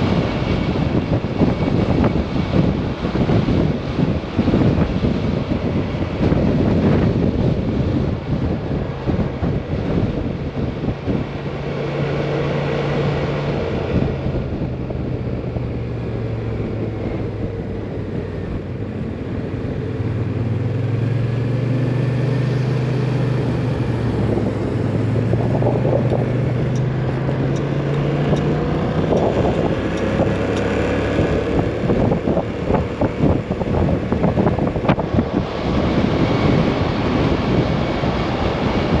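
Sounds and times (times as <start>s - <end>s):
wind buffeting on microphone: 0.0s - 39.0s
scooter engine hum: 6.4s - 39.0s.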